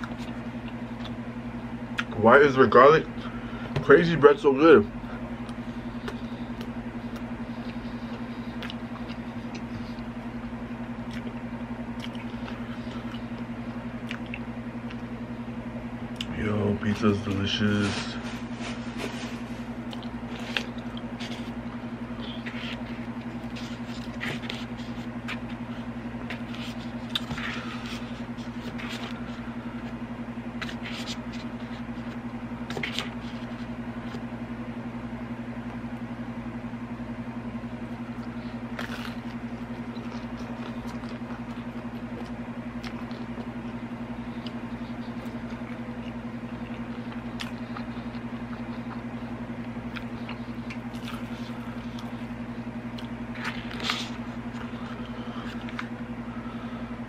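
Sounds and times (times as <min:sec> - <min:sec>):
biting and chewing pizza: 0:00.0 - 0:57.0
steady low hum: 0:00.0 - 0:57.0.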